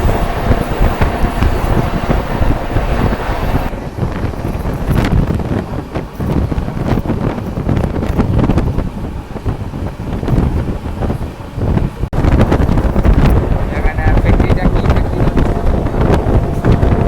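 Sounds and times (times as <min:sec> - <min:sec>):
train rumbling: 0:00.0 - 0:17.0
wind buffeting microphone: 0:00.0 - 0:17.0.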